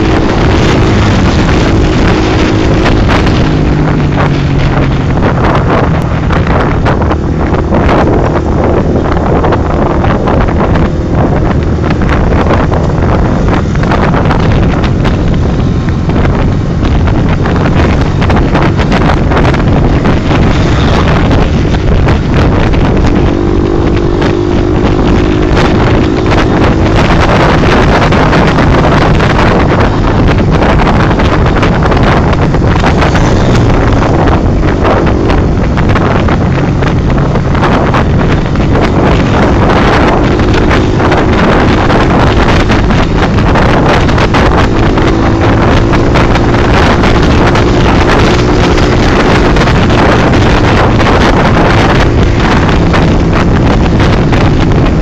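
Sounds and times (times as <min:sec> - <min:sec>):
motorcycle engines running: 0:00.0 - 0:55.0
wind buffeting microphone: 0:00.0 - 0:55.0.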